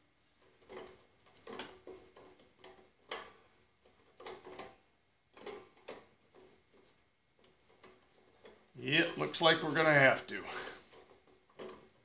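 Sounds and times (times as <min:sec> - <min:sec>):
metallic clicks and scrapes: 0:00.4 - 0:12.0.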